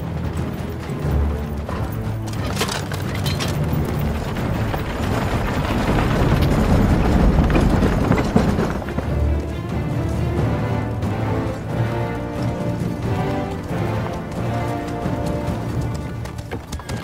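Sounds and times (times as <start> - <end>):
clatter of hooves: 0.0 - 17.0
wagon wheels rumbling and rattling: 0.0 - 17.0.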